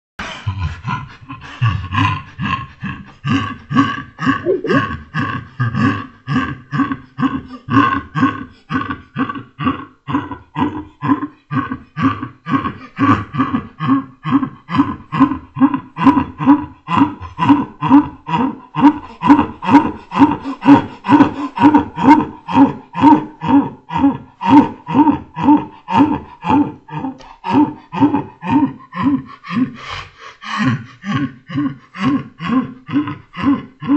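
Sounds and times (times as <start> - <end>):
slowed-down man laughing: 0.2 - 33.9.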